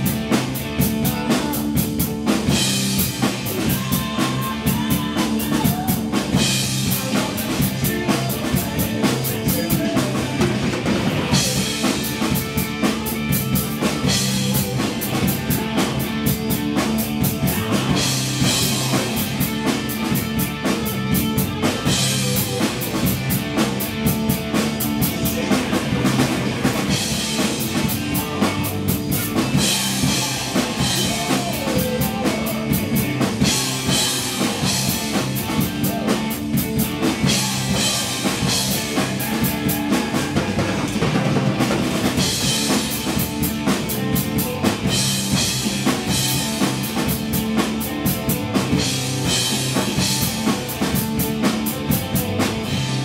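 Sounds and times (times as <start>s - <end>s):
recorded rock song: 0.0s - 53.0s
rock drum kit groove: 0.0s - 53.0s.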